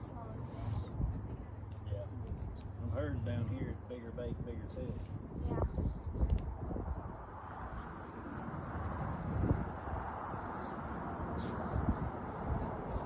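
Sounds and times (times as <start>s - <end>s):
insects chirping in pulses: 0.0s - 13.0s.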